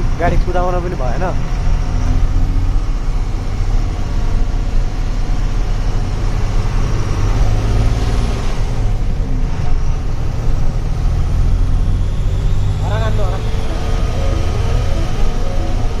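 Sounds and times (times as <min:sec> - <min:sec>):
road noise: 0:00.0 - 0:16.0
truck engine running: 0:00.0 - 0:16.0.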